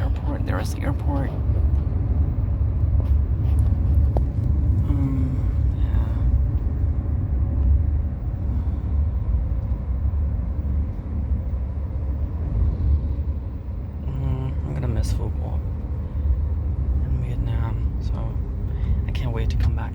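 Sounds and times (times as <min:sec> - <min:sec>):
low rumble: 0:00.0 - 0:19.9.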